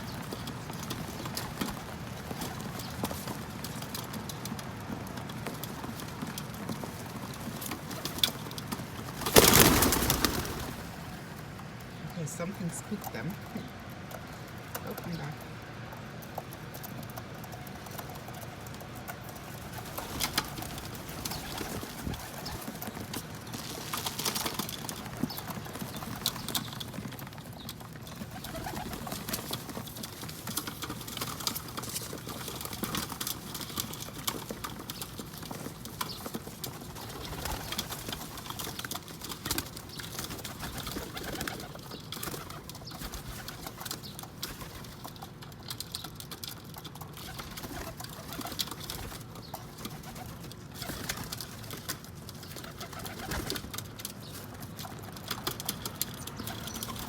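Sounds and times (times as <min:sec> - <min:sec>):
pigeons cooing: 0:00.0 - 0:45.3, 0:47.0 - 0:57.0.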